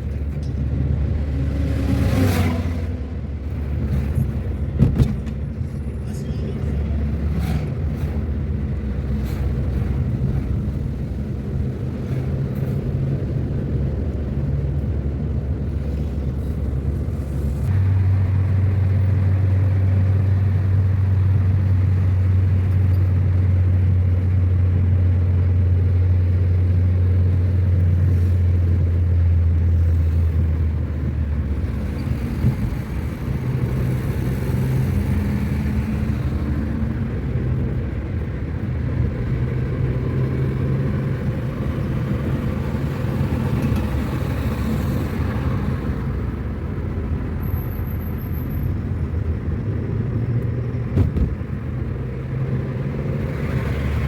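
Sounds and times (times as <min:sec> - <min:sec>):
car engine and tyre drone: 0:00.0 - 0:54.0.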